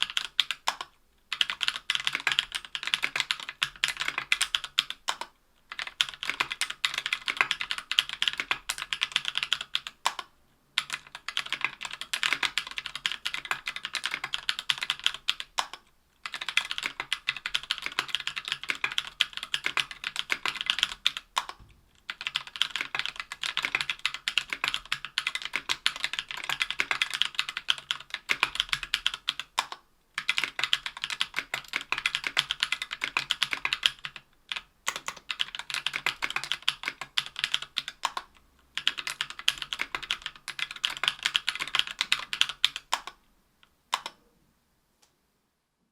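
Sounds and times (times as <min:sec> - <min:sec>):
typing on mechanical keyboard: 0:00.0 - 0:43.2, 0:43.9 - 0:44.2.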